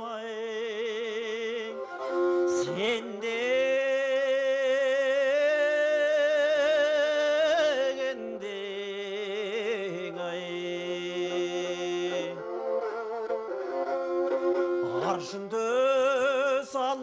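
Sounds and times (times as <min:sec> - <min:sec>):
bowed fiddle: 0:00.0 - 0:17.0
person singing with vibrato: 0:00.0 - 0:17.0.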